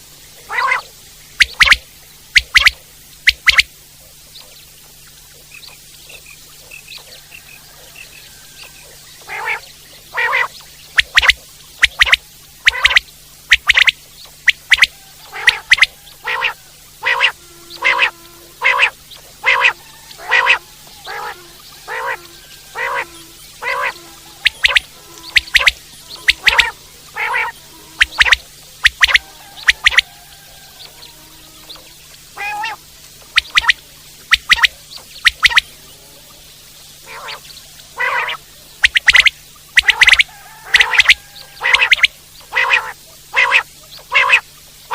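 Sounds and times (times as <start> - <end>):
low nasal bird notes: 0.0 - 7.2, 8.3 - 44.9
quail calling: 0.4 - 3.7, 8.3 - 36.2, 37.0 - 44.9.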